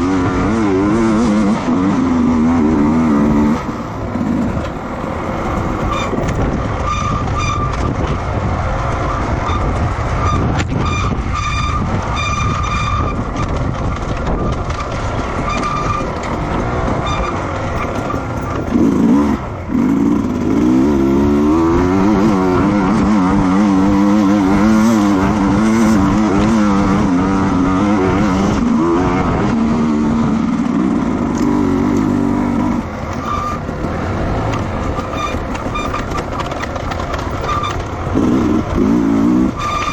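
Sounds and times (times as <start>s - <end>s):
racing motorcycle engines: 0.0s - 39.9s.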